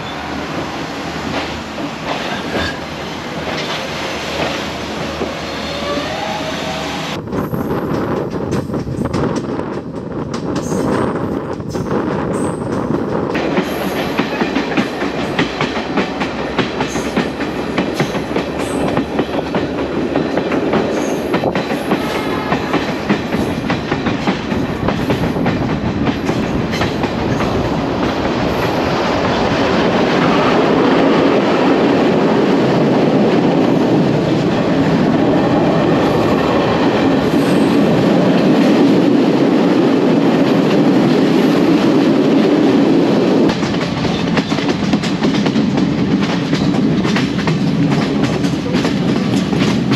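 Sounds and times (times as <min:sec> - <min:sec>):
wheels clacking over rail joints: 0:00.0 - 0:06.0, 0:07.8 - 0:49.9
train carriage rumbling: 0:00.0 - 0:49.9.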